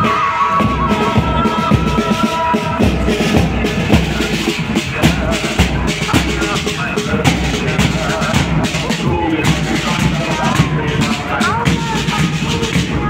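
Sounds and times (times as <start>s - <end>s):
drums beating march rhythm: 0.0s - 13.0s.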